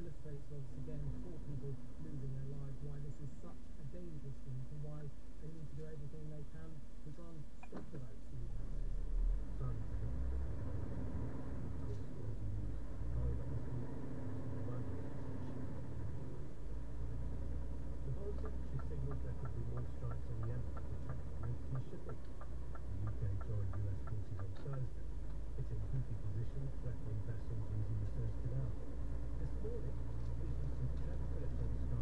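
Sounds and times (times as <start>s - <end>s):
engine and road rumble: 0.0s - 32.0s.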